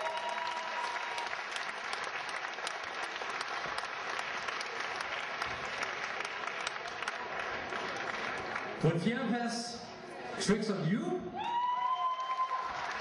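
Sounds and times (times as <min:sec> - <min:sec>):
crowd applauding: 0:00.0 - 0:09.0, 0:11.4 - 0:13.0.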